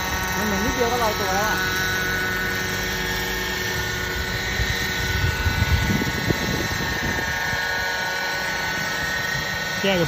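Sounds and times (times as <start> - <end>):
drone rotors whining: 0.0 - 10.0.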